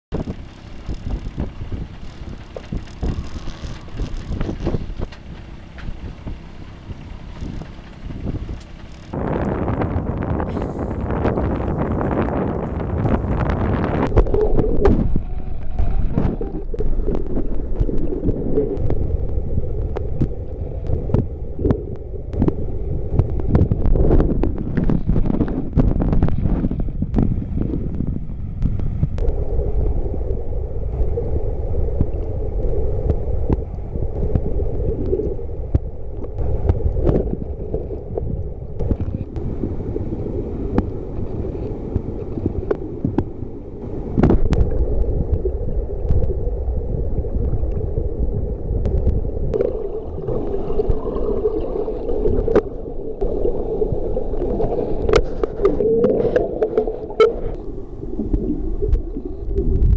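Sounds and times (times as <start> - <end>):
droning hum: 0.1 - 59.9
underwater low rumble: 0.1 - 59.9.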